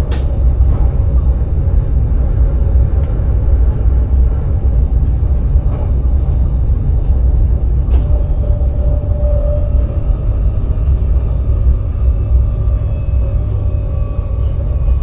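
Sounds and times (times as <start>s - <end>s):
faint hum: 0.0s - 15.0s
train rumbling along track: 0.0s - 15.0s.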